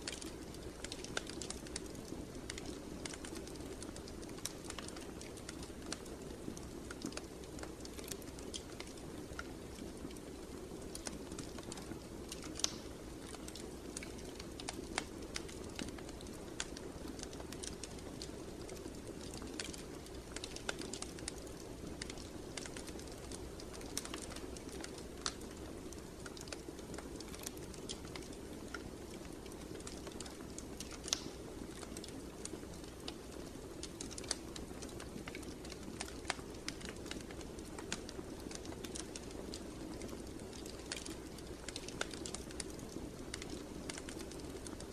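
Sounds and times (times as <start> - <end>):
fireplace fire crackling: 0.0 - 44.9.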